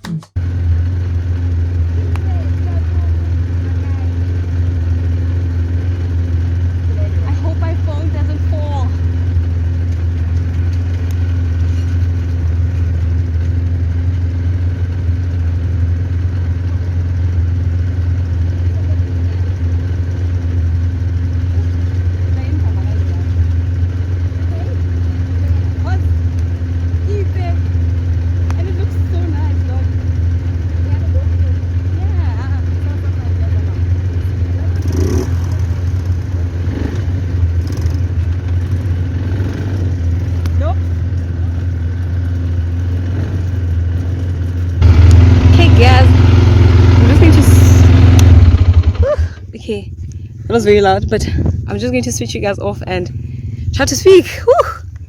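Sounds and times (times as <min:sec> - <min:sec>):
quad bike engine droning: 0:00.4 - 0:55.0.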